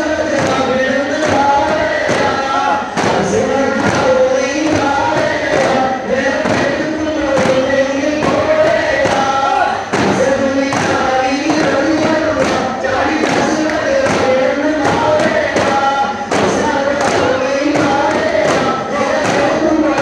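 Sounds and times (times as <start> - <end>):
frame drums beating: 0.0 - 20.0
men singing in chorus: 0.0 - 20.0.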